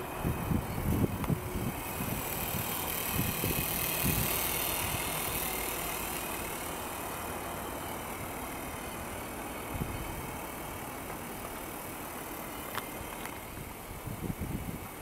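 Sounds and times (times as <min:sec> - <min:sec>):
toy helicopter rotors whirring: 0:00.2 - 0:15.0.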